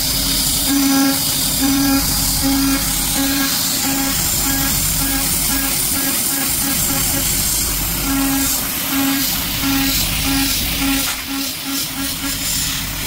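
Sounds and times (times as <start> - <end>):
mist coolant hiss: 0.0 - 13.0
router cutting metal: 0.0 - 13.0.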